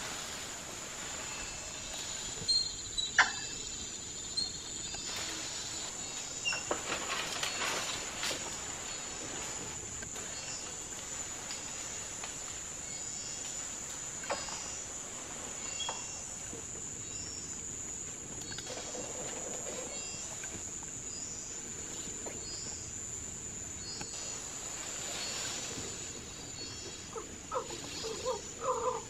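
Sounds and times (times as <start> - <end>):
forest insects droning: 0.0 - 29.0.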